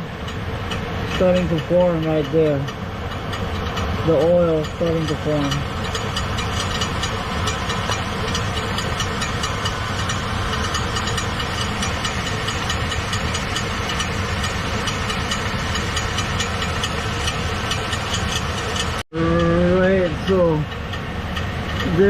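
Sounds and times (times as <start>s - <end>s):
fast metallic ticking: 0.0s - 22.0s
truck engine idling: 0.0s - 22.0s.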